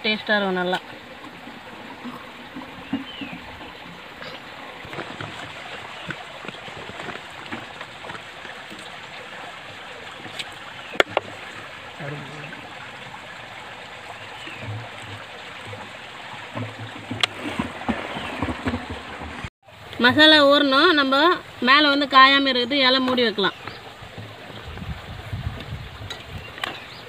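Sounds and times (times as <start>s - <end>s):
stream of running water: 0.0s - 27.0s.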